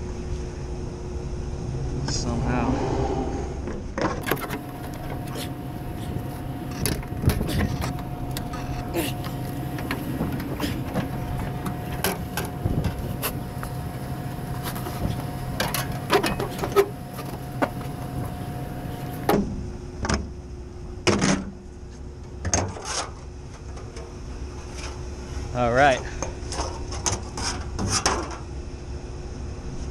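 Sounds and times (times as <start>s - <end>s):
steady mechanical hum: 0.0s - 29.9s.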